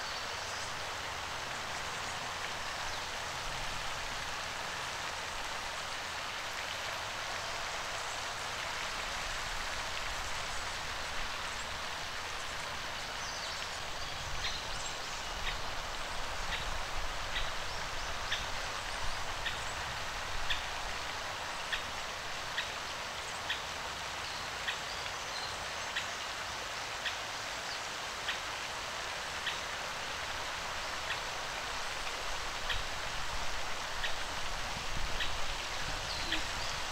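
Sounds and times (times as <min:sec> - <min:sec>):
hiss of running water: 0:00.0 - 0:36.9.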